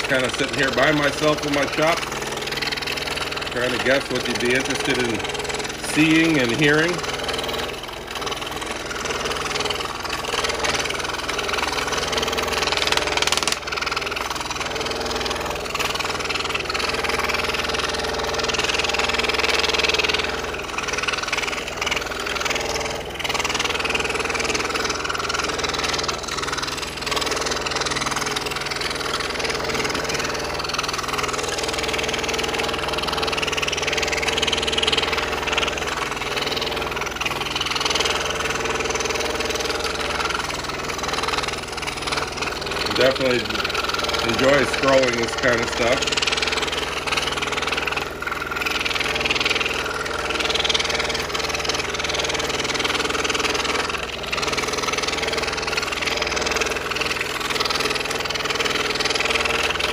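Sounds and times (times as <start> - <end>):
scroll saw cutting wood: 0.0 - 59.9.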